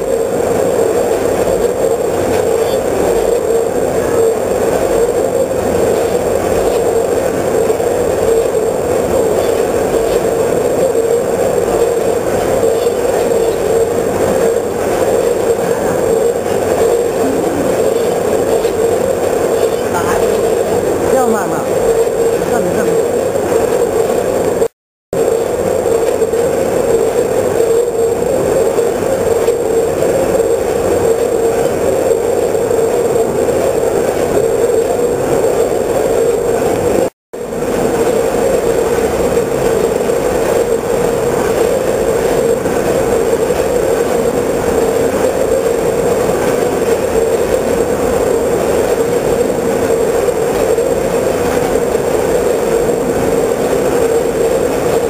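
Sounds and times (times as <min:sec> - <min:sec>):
machine humming: 0:00.0 - 0:55.0.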